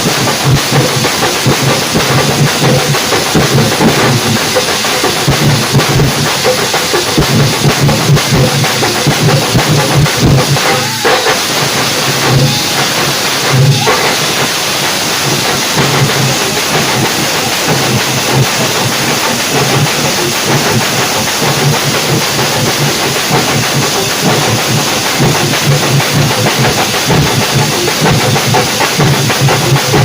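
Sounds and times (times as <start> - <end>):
percussion ensemble drumming: 0.0 - 30.0.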